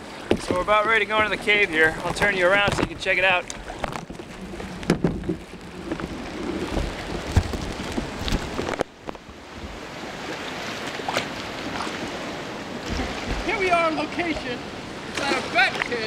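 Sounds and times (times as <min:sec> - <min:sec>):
water sloshing around kayak: 0:00.0 - 0:16.0.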